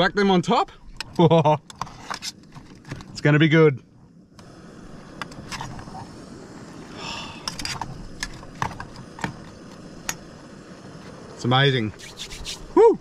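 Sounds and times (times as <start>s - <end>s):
gas cooker hiss: 0.0s - 13.0s.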